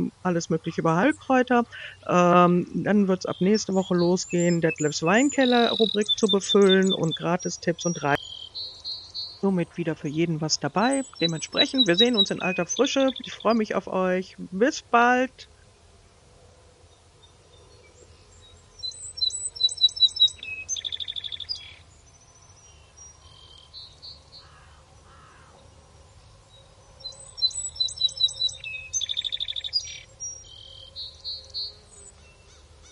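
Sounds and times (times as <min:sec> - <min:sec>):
songbird singing trill: 0:00.0 - 0:15.6, 0:16.8 - 0:32.9.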